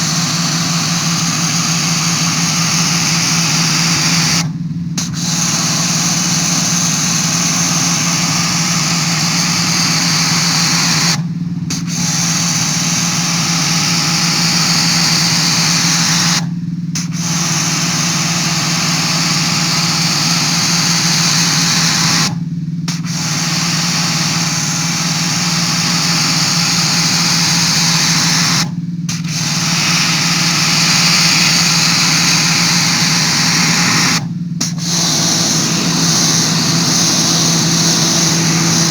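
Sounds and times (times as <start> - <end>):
pressure washer motor hum: 0.0 - 38.9
water jet hissing: 0.0 - 38.9.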